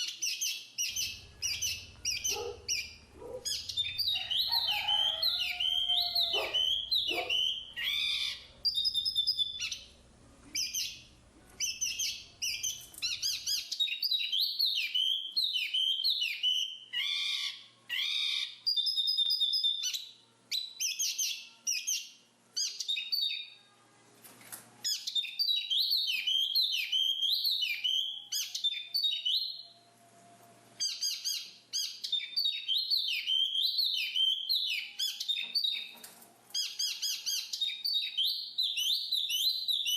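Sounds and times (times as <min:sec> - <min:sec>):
bird singing high chirping phrases: 0:00.0 - 0:23.7, 0:24.8 - 0:29.9, 0:30.8 - 0:36.0, 0:36.6 - 0:39.9.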